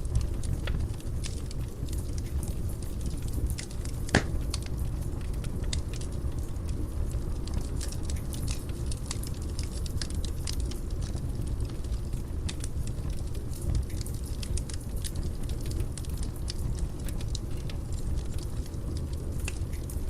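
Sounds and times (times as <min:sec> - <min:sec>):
fire flame rumbling: 0:00.0 - 0:20.0
fire popping and crackling: 0:00.0 - 0:20.0.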